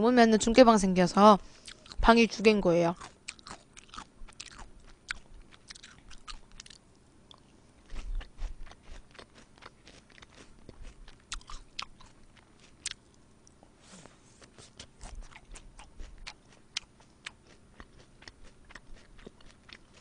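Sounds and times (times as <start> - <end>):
chewing crisp cabbage salad: 1.6 - 20.0.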